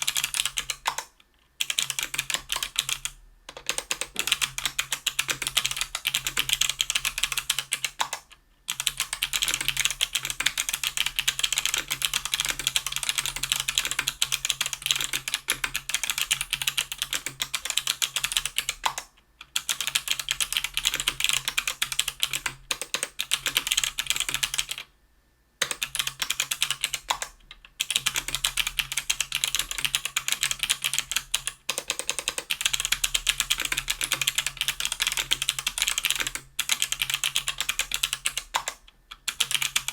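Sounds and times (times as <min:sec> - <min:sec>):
mechanical keyboard typing: 0:00.0 - 0:24.9, 0:25.6 - 0:39.9.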